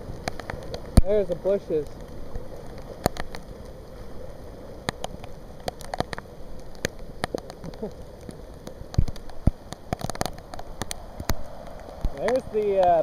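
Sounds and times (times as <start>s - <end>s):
heavy rain falling: 0.0s - 13.0s
raindrops tapping near microphone: 0.0s - 13.0s.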